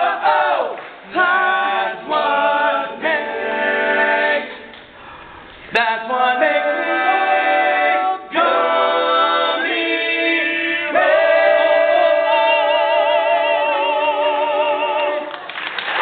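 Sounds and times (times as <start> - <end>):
male group singing in harmony: 0.0 - 4.8, 5.7 - 15.4.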